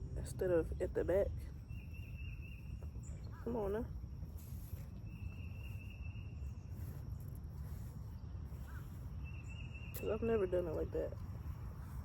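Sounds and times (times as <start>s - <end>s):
low outdoor rumble: 0.0s - 12.0s
cricket trilling: 0.1s - 12.0s.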